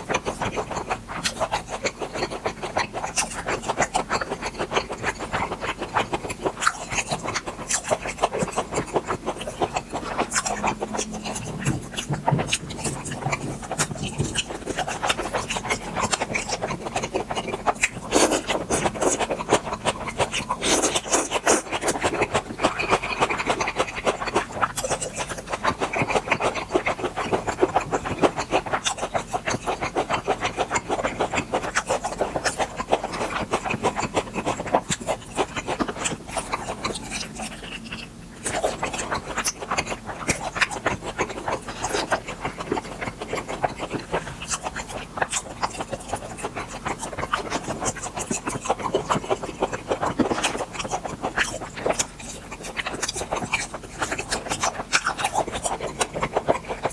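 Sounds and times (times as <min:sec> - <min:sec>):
wet chewing and crunching: 0:00.0 - 0:56.9.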